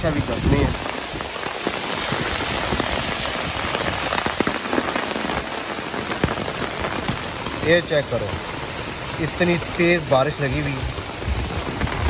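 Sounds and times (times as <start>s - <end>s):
heavy rain falling: 0.0s - 12.0s
raindrops ticking close by: 0.0s - 12.0s.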